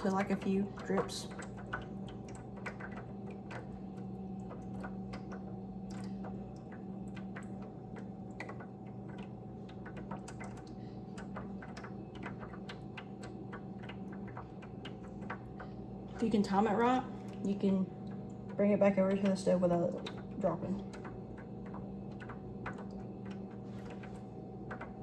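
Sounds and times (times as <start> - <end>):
grease dripping and crackling: 0.0 - 25.0
steady low hum: 0.0 - 25.0.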